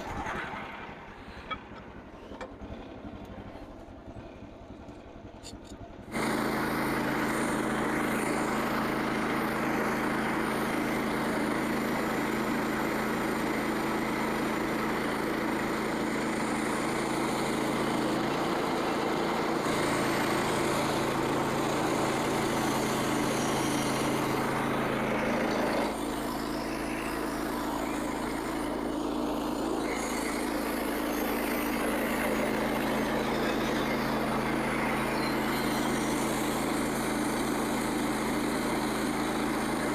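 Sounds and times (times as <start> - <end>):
sawmill engine running: 0.0 - 39.9
band blade sawing log: 5.4 - 39.9.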